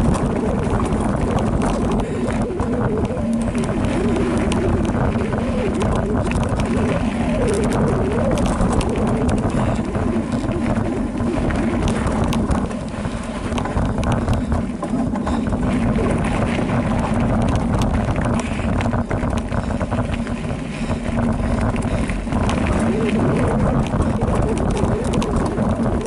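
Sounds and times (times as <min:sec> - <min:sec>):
bike rattling over stones: 0:00.0 - 0:26.0
wind rushing over microphone: 0:00.0 - 0:26.0.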